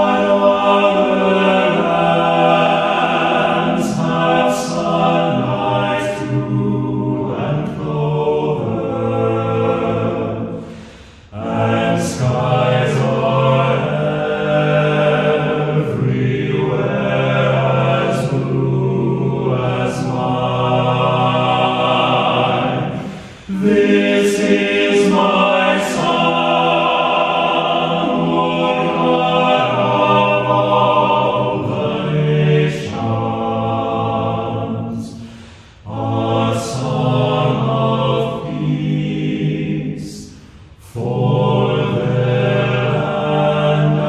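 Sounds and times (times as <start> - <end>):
choir singing: 0.0 - 44.0.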